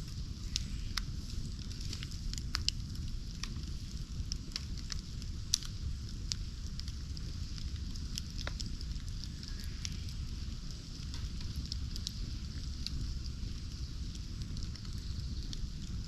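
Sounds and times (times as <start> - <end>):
bonfire crackling and popping: 0.0 - 16.0
low fire rumble: 0.0 - 16.0.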